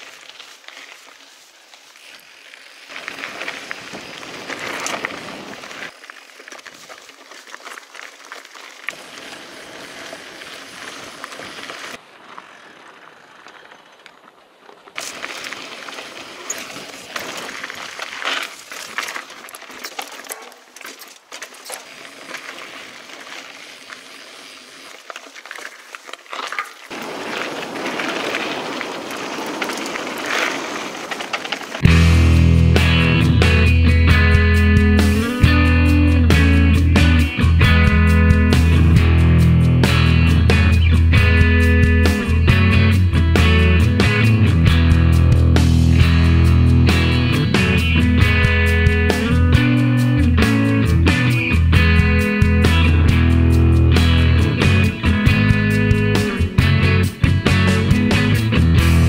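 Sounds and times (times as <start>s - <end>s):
bike rattling over bumps: 0.0s - 59.0s
bike tyres crunching on gravel: 0.0s - 59.0s.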